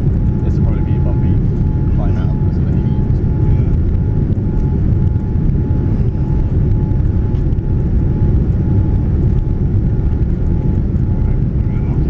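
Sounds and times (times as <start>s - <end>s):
airliner engine rumble in cabin: 0.0s - 12.0s
faint steady whine: 0.0s - 12.0s.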